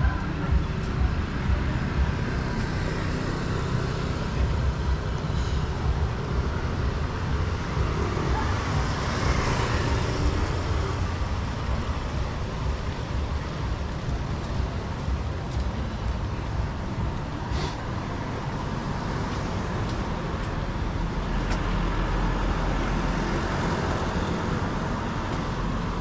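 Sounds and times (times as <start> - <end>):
motor scooter traffic: 0.0 - 26.0
steady low rumble: 0.0 - 26.0.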